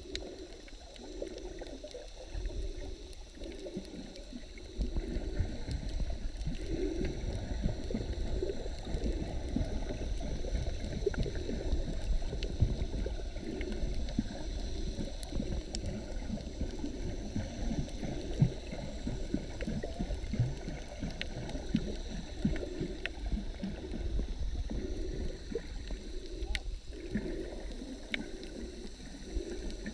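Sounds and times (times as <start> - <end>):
faint clicks: 0.0 - 29.9
muffled underwater gurgling: 0.0 - 29.9.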